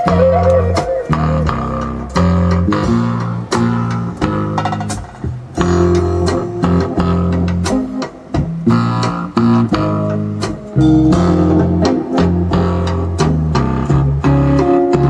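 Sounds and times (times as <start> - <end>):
bass line: 0.0 - 15.0
plucked string notes: 0.0 - 15.0.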